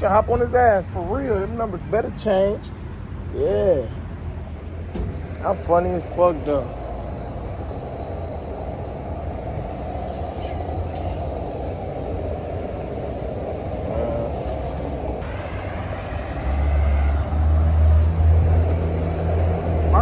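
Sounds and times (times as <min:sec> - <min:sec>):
car engine and road rumble: 0:00.0 - 0:20.0
deep engine hum: 0:02.8 - 0:20.0.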